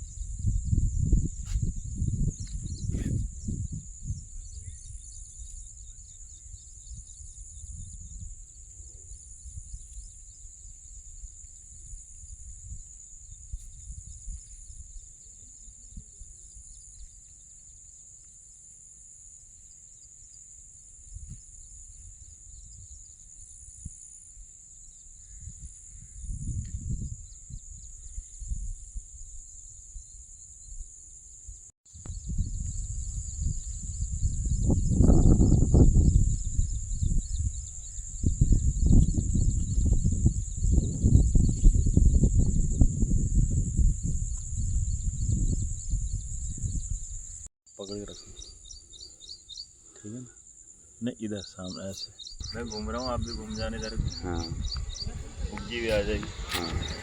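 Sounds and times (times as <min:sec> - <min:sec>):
wind rumbling on microphone: 0:00.0 - 0:17.4, 0:20.9 - 0:24.1, 0:24.8 - 0:47.5, 0:51.8 - 0:57.0
high-pitched insect chorus: 0:00.0 - 0:57.0.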